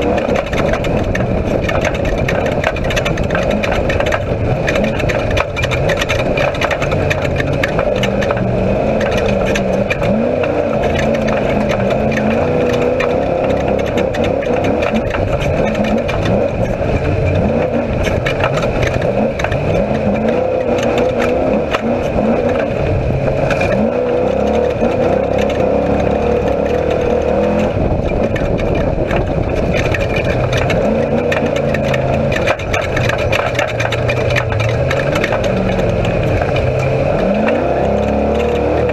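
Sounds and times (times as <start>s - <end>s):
chassis knocks and rattles: 0.0s - 38.9s
race vehicle engine revving: 0.0s - 38.9s.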